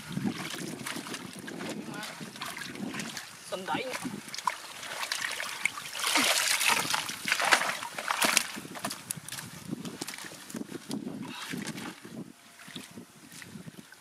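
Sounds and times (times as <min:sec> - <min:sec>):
fish thrashing in water: 0:00.0 - 0:13.7
water splashing in a bucket: 0:00.0 - 0:14.0.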